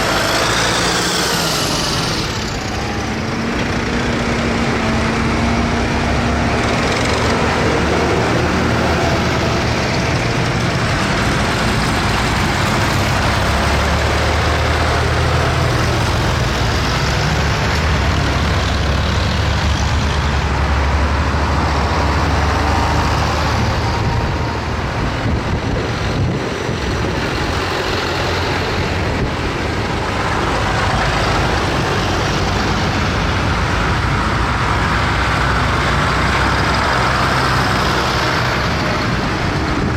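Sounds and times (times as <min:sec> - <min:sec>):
tractor engines droning: 0:00.0 - 0:39.9.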